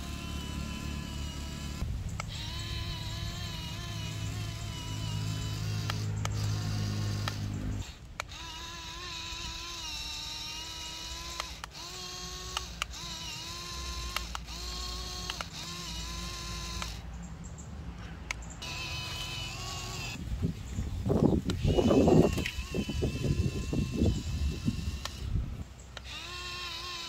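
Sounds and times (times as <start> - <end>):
electric gear motor whining: 0.0 - 17.0, 18.6 - 20.3, 21.2 - 27.0.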